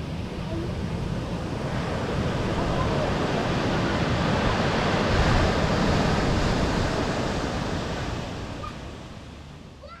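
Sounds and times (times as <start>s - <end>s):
steady rushing noise: 0.0s - 9.8s.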